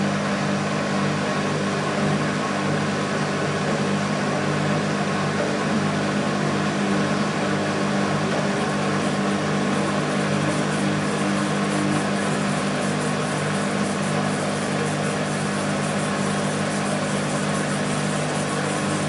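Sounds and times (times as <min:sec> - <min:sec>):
washing machine running: 0:00.0 - 0:19.0.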